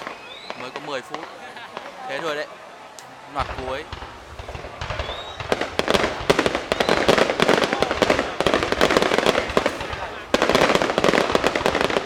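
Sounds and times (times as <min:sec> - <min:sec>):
rising firework whistle: 0:00.0 - 0:01.2, 0:03.6 - 0:12.0
fireworks crackling barrage: 0:00.0 - 0:12.0.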